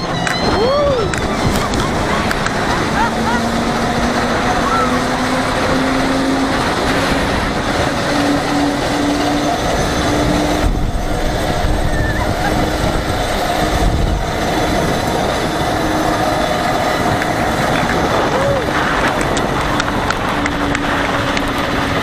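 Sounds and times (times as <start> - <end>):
cable ride rushing along cables: 0.0 - 22.0
low humming whine: 0.0 - 22.0.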